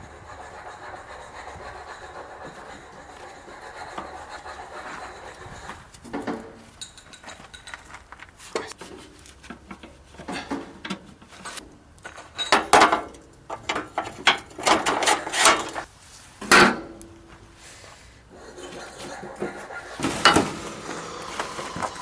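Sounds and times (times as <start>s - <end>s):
metal parts and tools clanking: 0.0s - 8.0s, 8.6s - 17.1s, 18.6s - 22.0s.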